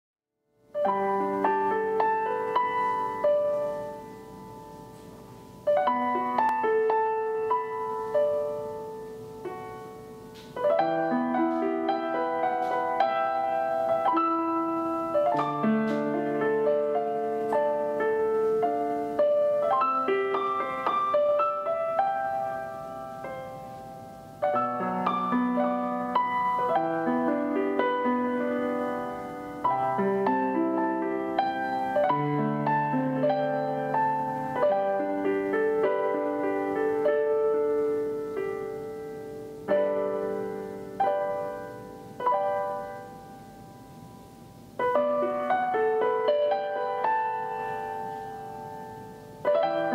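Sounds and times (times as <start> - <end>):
gentle piano music: 0.5 - 49.9.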